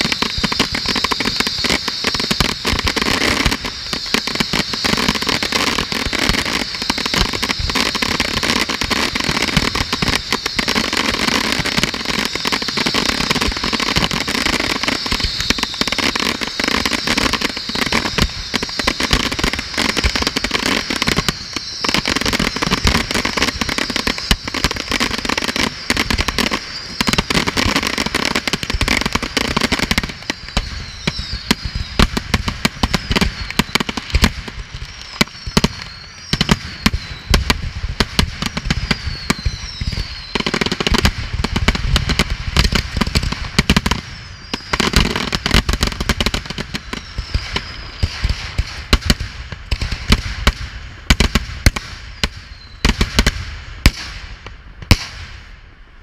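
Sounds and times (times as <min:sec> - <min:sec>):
firework whistles: 0:00.0 - 0:56.0
fireworks bursts and bangs: 0:00.0 - 0:56.0
fireworks crackling pops: 0:00.0 - 0:56.0.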